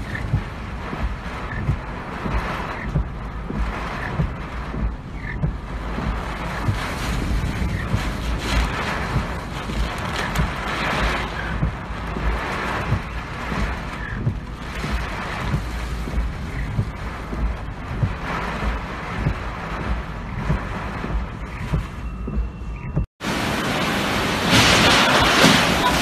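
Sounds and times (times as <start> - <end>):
wind buffeting microphone: 0.0 - 26.0
wind gusting hard: 0.0 - 26.0.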